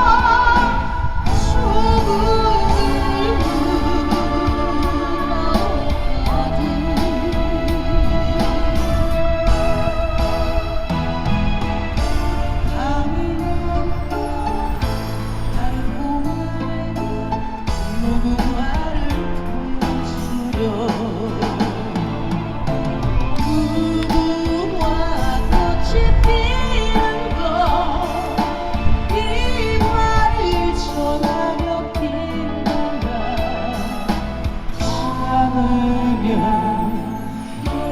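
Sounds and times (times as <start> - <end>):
woman singing with vibrato: 0.0 - 11.3, 11.9 - 22.3, 23.4 - 37.9
backing track music: 0.0 - 37.9.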